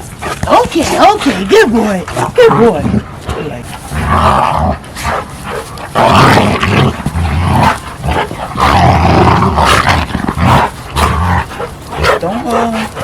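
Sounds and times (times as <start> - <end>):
big dog grumbling: 0.0 - 13.0.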